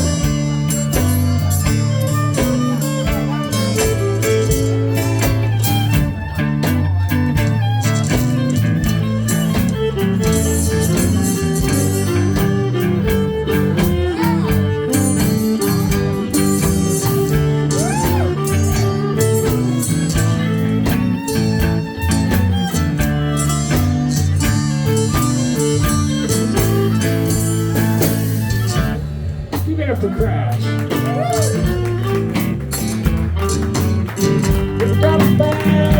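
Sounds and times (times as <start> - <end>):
blues band playing: 0.0 - 35.9
lead guitar with bent notes: 0.0 - 35.9.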